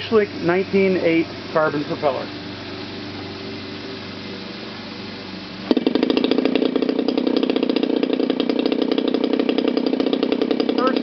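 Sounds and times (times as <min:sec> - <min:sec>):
model aircraft engine popping: 0:00.0 - 0:11.0.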